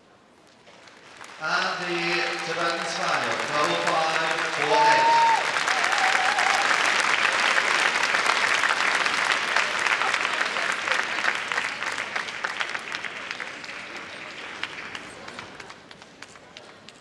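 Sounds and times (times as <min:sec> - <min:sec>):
audience applauding: 0:00.7 - 0:17.0.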